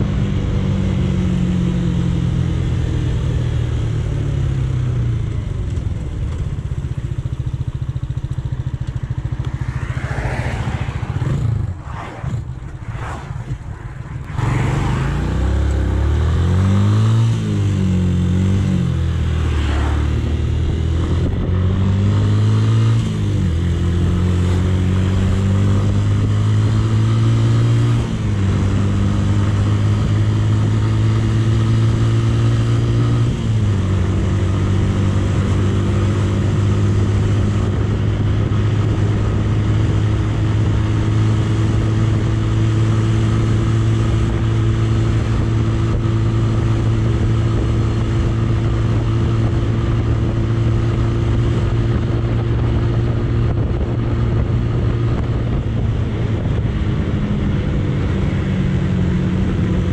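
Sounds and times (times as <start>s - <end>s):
motorcycle engine revving: 0.0s - 59.9s
wind noise: 7.2s - 59.9s.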